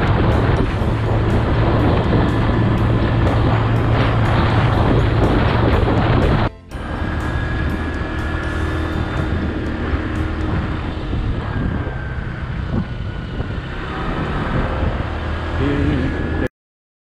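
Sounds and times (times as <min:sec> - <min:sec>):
motorcycle engine rumble: 0:00.0 - 0:16.5
wind rushing over microphone: 0:00.0 - 0:16.5.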